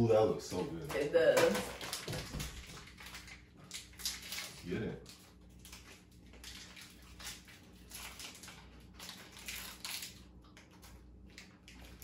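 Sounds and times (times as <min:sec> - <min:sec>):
plastic wrapper crinkling: 0:01.5 - 0:12.0
crunching wafer being chewed: 0:01.8 - 0:12.0.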